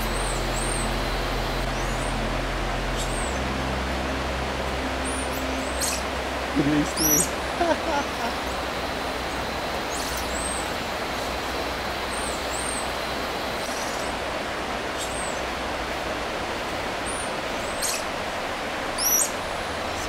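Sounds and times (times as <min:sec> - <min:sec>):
rushing background noise: 0:00.0 - 0:20.0.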